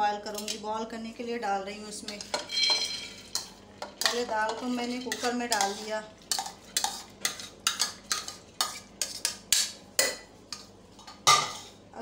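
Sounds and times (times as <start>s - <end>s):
spoon scraping a metal pot: 2.0s - 11.8s.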